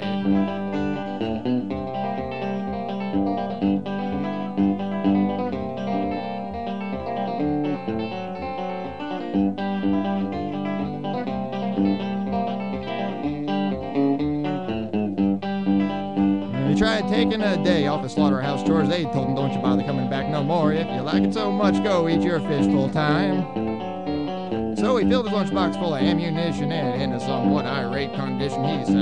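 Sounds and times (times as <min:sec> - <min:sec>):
electric guitar lead lines: 0:00.0 - 0:29.0
strummed acoustic guitar: 0:00.0 - 0:29.0.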